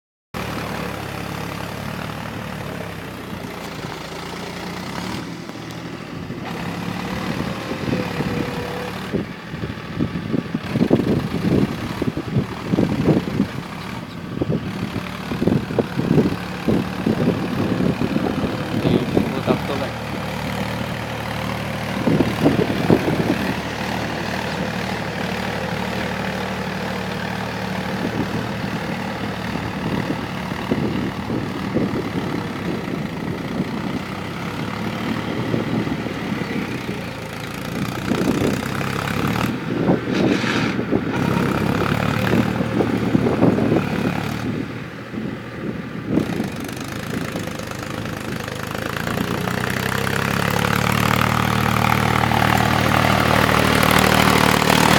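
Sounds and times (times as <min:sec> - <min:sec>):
tractor engine running: 0:00.4 - 0:54.9.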